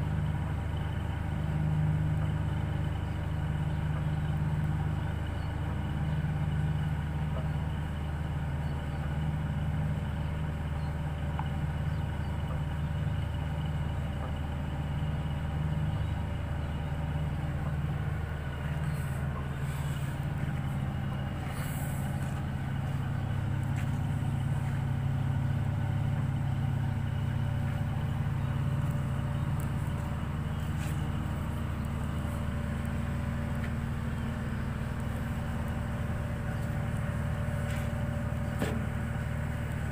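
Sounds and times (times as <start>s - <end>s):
ship engine droning: 0.0s - 39.9s.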